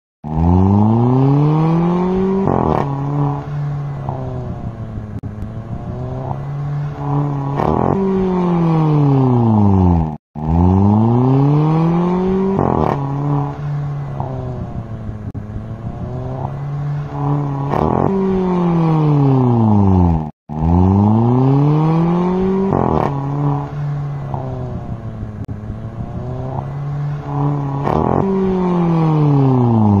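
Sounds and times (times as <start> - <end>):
car engine revving: 0.2 - 30.0.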